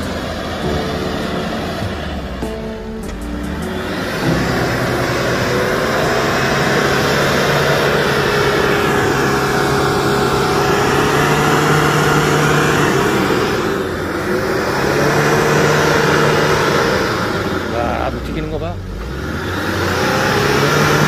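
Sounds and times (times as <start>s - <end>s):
engine straining under load: 0.0s - 21.0s.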